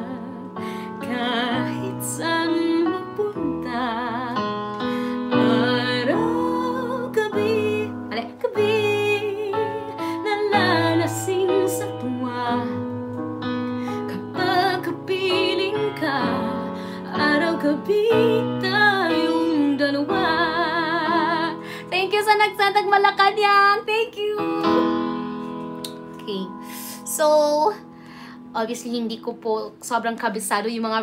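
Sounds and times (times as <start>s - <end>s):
woman singing a slow ballad: 0.0s - 27.9s
piano chords on keyboard: 0.0s - 31.0s.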